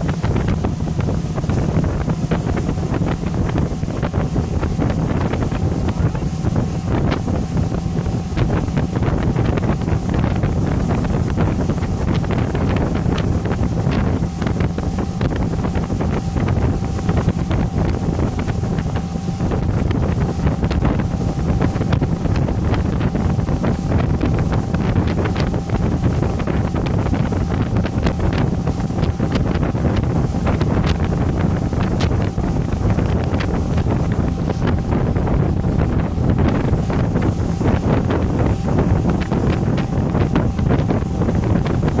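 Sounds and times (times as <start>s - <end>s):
motorboat engine drone: 0.0s - 42.0s
water rushing: 0.0s - 42.0s
wind buffeting microphone: 0.0s - 42.0s.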